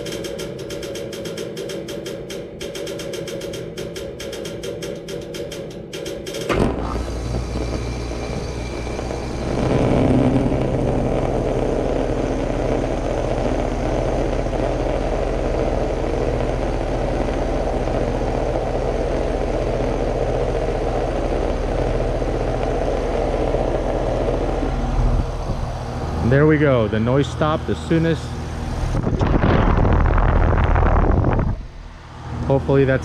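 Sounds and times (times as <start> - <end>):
air conditioner unit humming: 0.0 - 33.0
condenser fan rushing air: 0.0 - 33.0.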